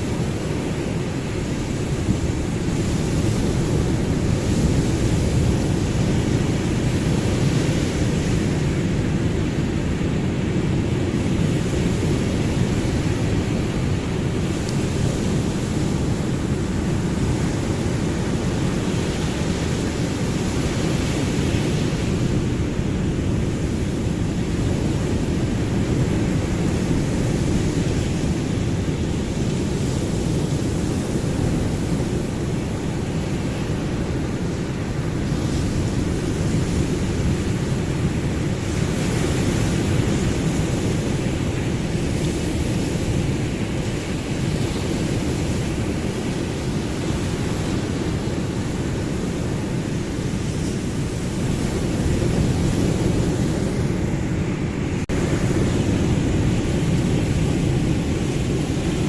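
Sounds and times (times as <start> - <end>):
waves breaking: 0.0 - 59.0.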